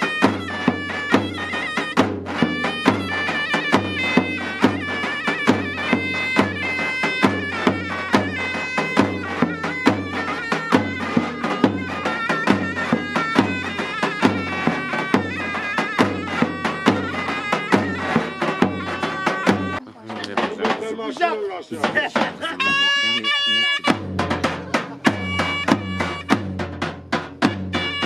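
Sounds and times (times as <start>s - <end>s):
shrill reed melody: 0.0s - 19.8s, 22.3s - 28.0s
steady drum beat: 0.0s - 28.0s.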